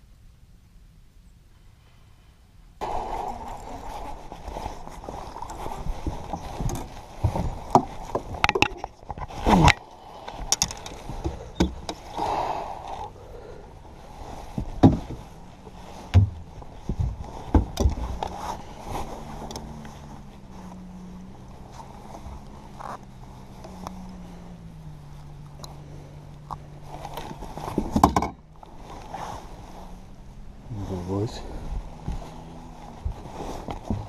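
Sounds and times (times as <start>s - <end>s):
faint steady hum: 0.0s - 34.0s
net and gear bumping boat: 2.8s - 30.5s, 31.7s - 34.0s.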